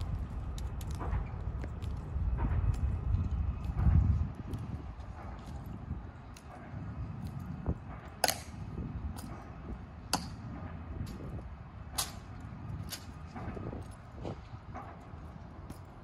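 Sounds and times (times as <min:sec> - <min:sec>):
metal-tapped heels clicking on stone: 0:00.0 - 0:09.4, 0:12.0 - 0:16.0.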